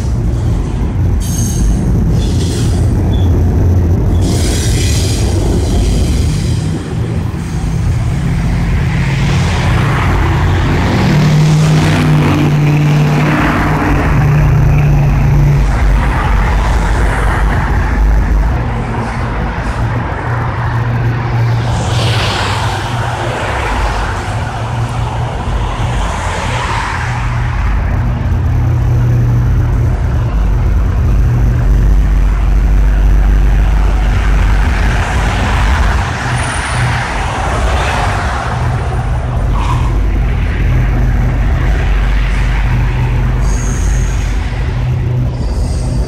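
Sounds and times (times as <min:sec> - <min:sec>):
cars passing on road: 0:00.0 - 0:46.0
freight train rumbling over bridge: 0:00.0 - 0:46.0.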